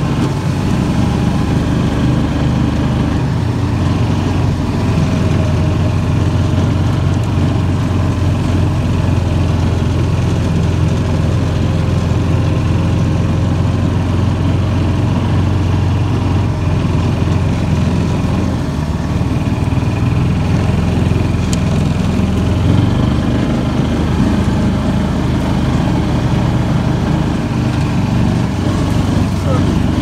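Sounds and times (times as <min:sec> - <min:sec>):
utility vehicle engine running: 0:00.0 - 0:30.0.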